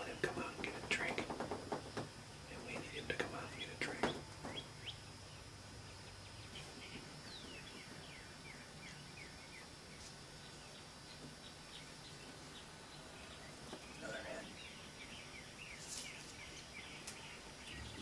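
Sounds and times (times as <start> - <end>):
faint outdoor ambience: 0.0 - 18.0
songbirds chirping: 0.0 - 18.0.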